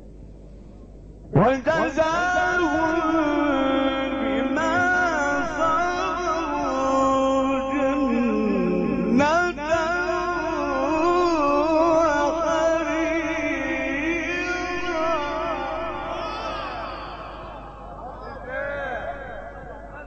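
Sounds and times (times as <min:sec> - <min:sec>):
man chanting melodically: 0:01.3 - 0:20.0.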